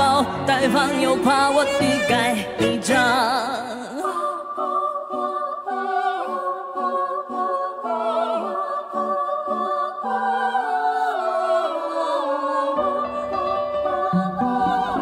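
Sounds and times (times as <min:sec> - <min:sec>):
a cappella voices singing chords: 0:00.0 - 0:15.0.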